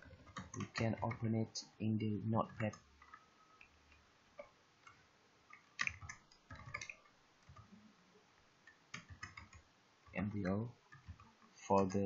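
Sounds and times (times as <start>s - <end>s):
faint keyboard typing: 0.0s - 7.9s, 8.6s - 12.0s.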